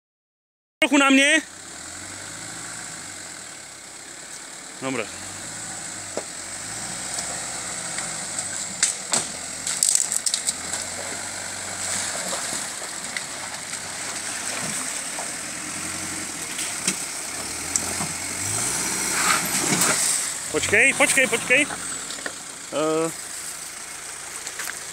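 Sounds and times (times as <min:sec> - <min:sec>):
pickup engine running at low revs: 0:00.9 - 0:24.9.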